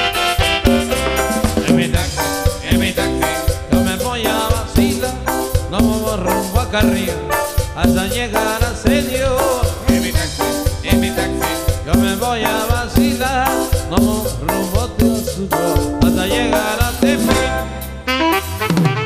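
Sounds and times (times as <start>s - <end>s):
live band playing latin dance music: 0.0s - 19.0s.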